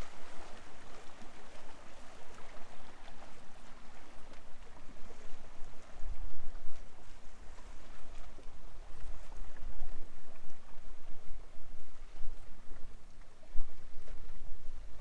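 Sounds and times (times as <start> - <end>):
water lapping against kayak hull: 0.0 - 15.0
wind on microphone: 0.0 - 15.0.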